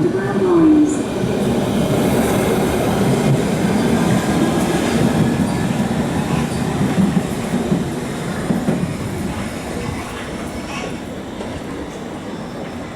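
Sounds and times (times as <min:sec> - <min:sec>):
train wheels rumbling on track: 0:00.0 - 0:12.9.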